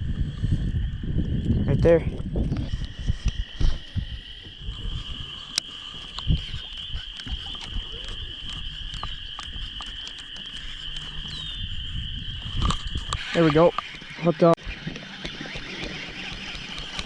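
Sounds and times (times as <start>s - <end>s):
frogs calling: 0.0s - 17.0s.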